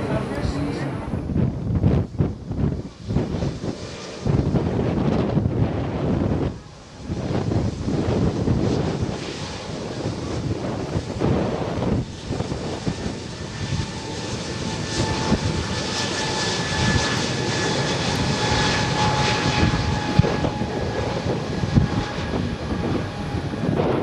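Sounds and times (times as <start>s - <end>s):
aircraft engines passing: 0.0s - 24.0s.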